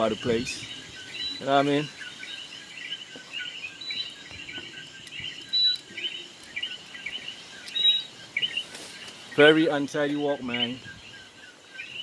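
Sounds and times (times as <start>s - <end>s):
small animals chirping: 0.0s - 12.0s.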